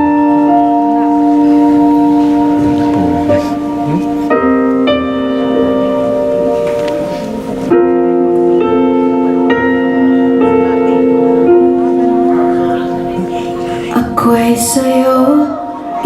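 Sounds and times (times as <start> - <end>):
keyboard playing held chords: 0.0 - 16.0.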